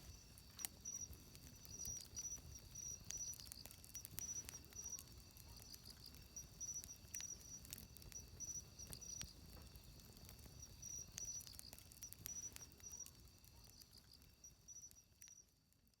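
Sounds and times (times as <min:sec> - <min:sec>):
insect chirping trills: 0:00.0 - 0:15.6
campfire crackling and popping: 0:00.0 - 0:16.0.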